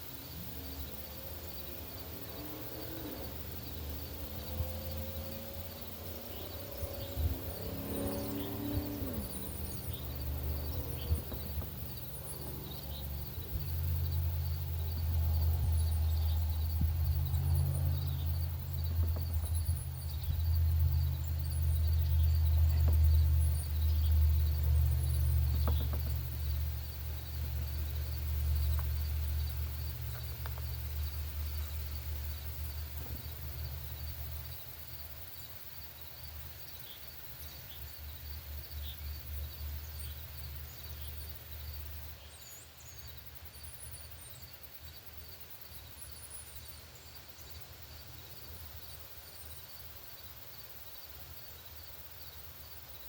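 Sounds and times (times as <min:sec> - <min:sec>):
small birds chirping: 0:00.0 - 0:50.3
pulsing high insect call: 0:00.0 - 0:53.0.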